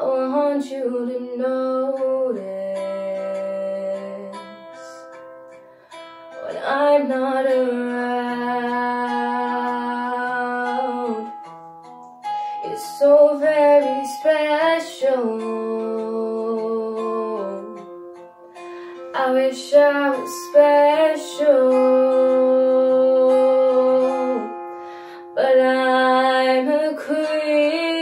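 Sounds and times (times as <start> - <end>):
young woman singing: 0.0 - 5.2, 6.2 - 11.6, 12.3 - 28.0
picked guitar: 0.0 - 28.0.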